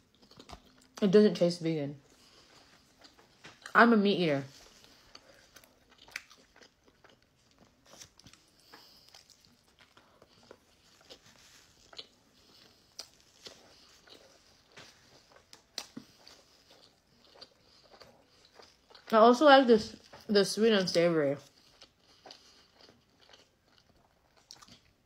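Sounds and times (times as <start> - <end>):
chewing with wet mouth clicks: 0.1 - 1.1, 2.1 - 3.8, 4.8 - 19.2, 21.4 - 25.0.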